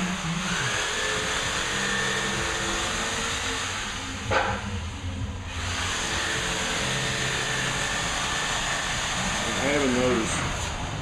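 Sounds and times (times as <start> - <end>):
machine hum and whir: 0.0 - 11.0.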